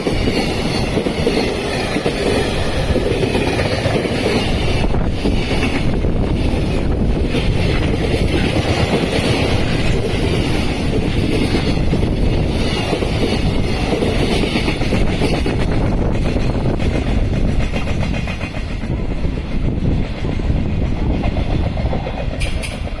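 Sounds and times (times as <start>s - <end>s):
freight train passing: 0.0s - 23.0s.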